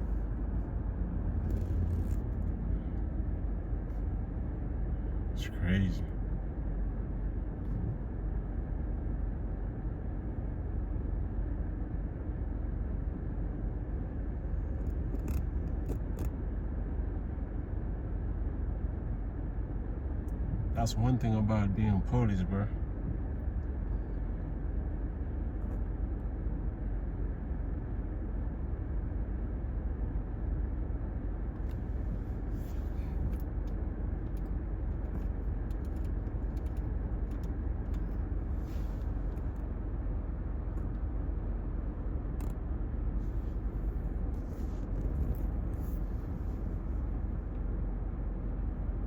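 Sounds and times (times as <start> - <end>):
car cabin rumble: 0.0 - 49.0.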